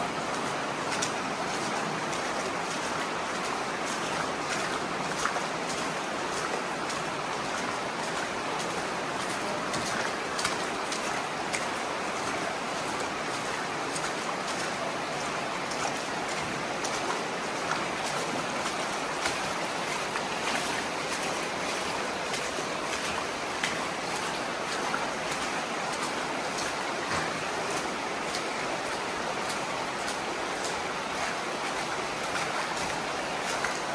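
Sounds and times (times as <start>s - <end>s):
heavy running water rushing: 0.0s - 33.9s.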